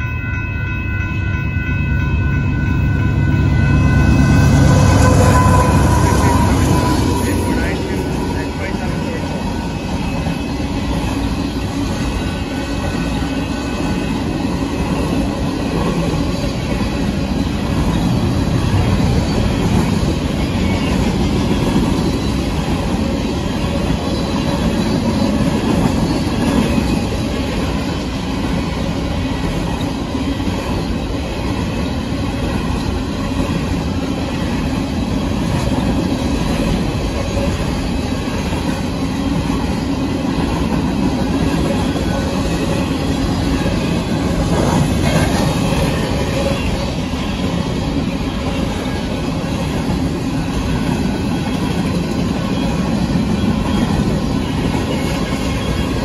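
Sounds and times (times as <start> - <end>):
train wheels rumbling and rattling: 1.1 - 56.0.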